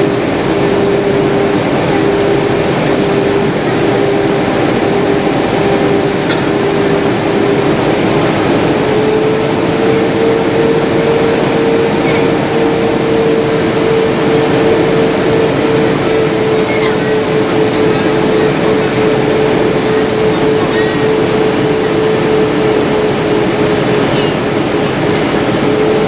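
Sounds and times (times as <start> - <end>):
jet engines and rushing air: 0.0 - 26.0.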